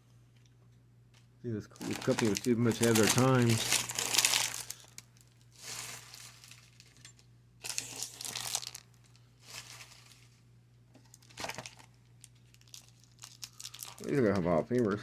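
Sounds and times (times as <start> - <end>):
card pack wrappers crinkling: 1.7 - 10.4, 11.0 - 15.0.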